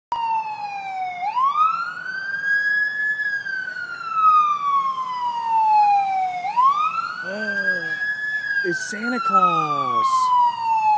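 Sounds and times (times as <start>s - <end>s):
emergency siren wailing: 0.1s - 10.9s.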